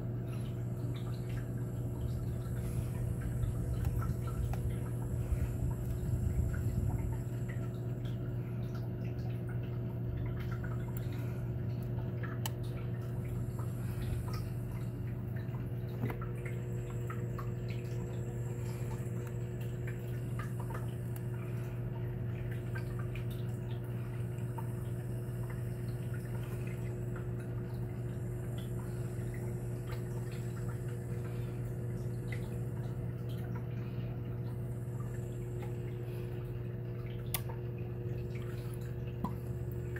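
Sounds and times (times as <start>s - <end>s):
aquarium equipment humming: 0.0s - 39.9s
small drips and splashes: 0.0s - 39.9s
water trickling: 0.0s - 39.9s.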